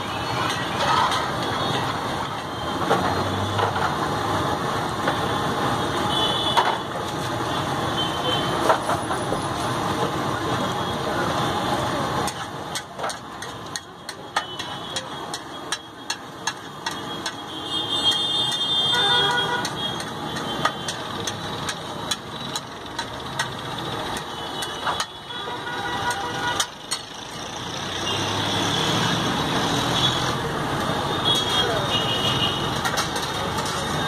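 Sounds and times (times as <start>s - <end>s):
traffic noise: 0.0s - 34.0s.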